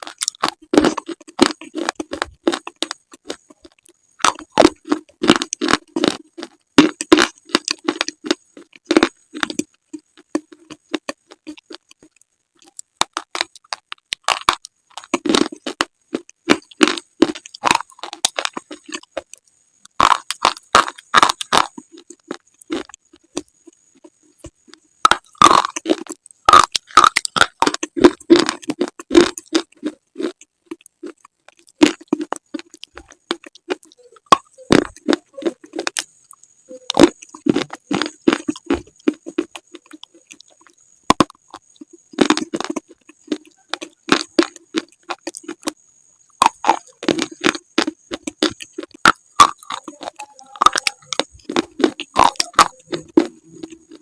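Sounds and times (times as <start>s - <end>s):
biting and crunching slate: 0.0s - 23.5s, 24.4s - 36.1s, 36.9s - 45.8s, 46.4s - 54.0s.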